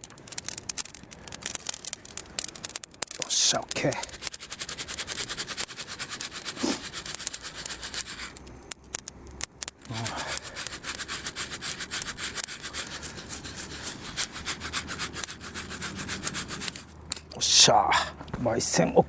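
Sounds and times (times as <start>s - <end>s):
coffee beans rattling in roaster: 0.0s - 17.6s.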